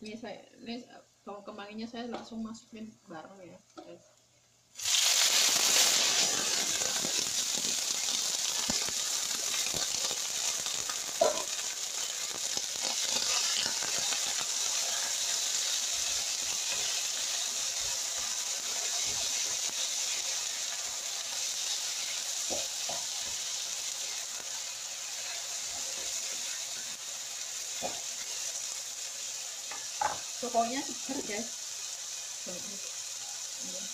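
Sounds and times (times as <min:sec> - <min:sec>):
vegetables sizzling in oil: 0:04.7 - 0:33.9.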